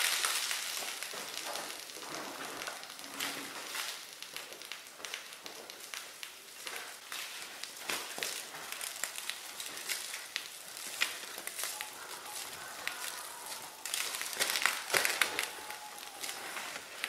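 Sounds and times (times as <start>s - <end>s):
snow foam fizzing and crackling: 0.0s - 17.0s.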